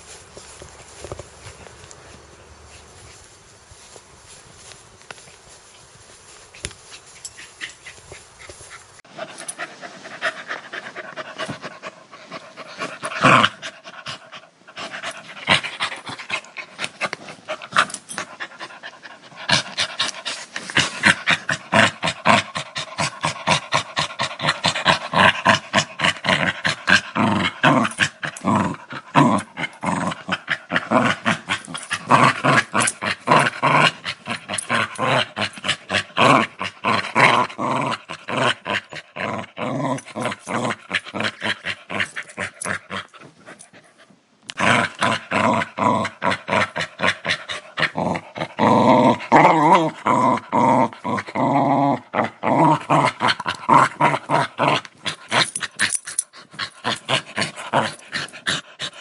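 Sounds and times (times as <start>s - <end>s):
dog growling: 10.2s - 43.7s, 44.5s - 59.0s.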